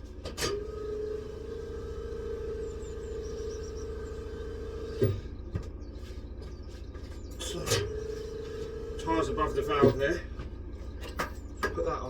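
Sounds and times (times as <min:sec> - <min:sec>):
machine humming and whining: 0:00.0 - 0:12.0.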